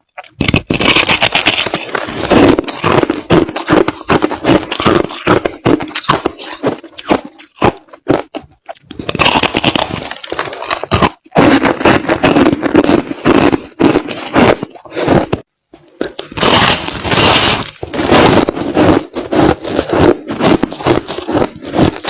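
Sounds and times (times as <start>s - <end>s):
ice being chewed: 0.0s - 22.0s.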